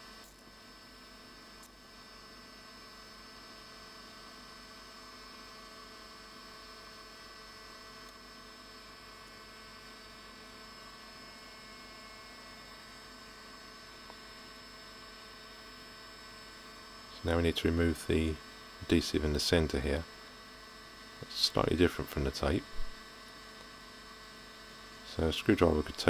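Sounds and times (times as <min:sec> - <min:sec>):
electrical hum and hiss: 0:00.0 - 0:26.0.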